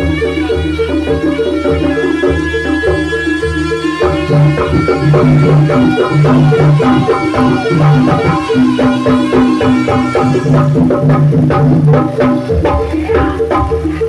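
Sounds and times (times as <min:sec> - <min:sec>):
drums and tuned percussion: 0:00.0 - 0:14.0.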